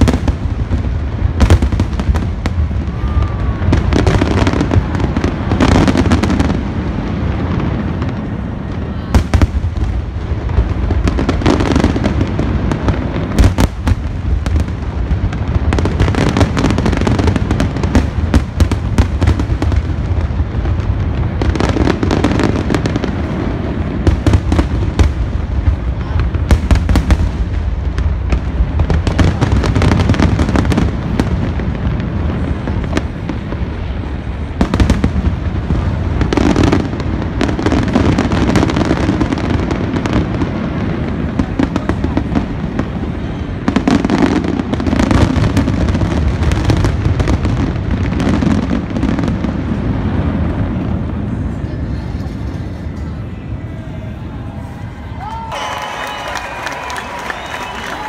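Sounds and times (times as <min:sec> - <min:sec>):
sharp firework bangs: 0:00.0 - 0:51.1.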